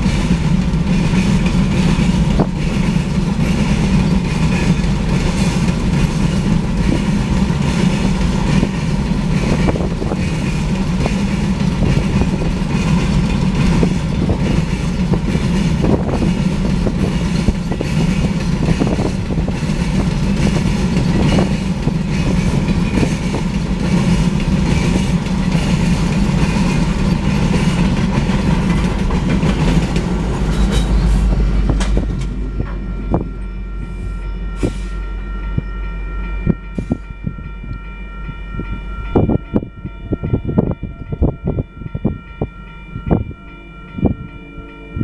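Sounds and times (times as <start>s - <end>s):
crossing bell ringing: 0.0s - 45.0s
freight train rolling past: 0.0s - 45.0s
locomotive rumble: 0.0s - 45.0s.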